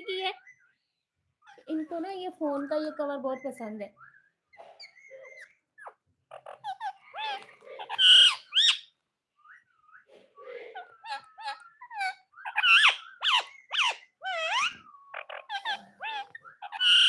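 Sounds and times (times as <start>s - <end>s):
parrot squawking and chirping: 0.0s - 2.0s, 4.0s - 17.0s.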